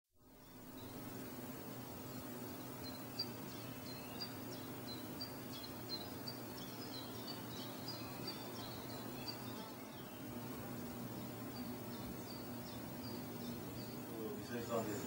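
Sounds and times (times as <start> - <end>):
faint low hum: 0.2 - 15.0
small birds chirping: 0.2 - 15.0.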